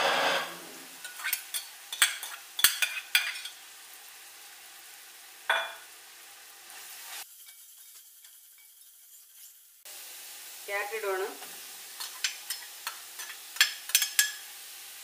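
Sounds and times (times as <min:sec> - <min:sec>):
cabbage sizzling in hot oil: 0:00.0 - 0:15.0.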